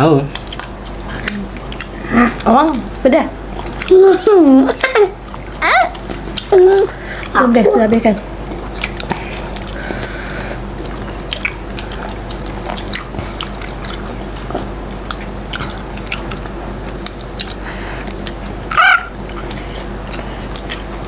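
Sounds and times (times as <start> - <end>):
people chewing fried chicken: 0.0 - 21.0.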